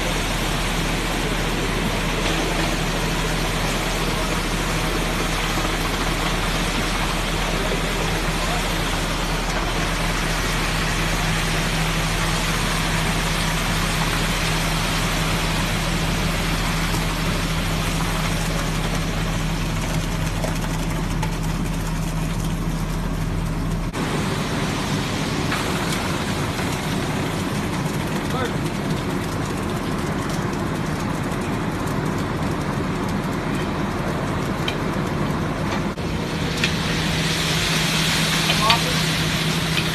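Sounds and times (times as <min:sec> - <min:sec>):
mechanical running noise with low hum: 0:00.0 - 0:39.9.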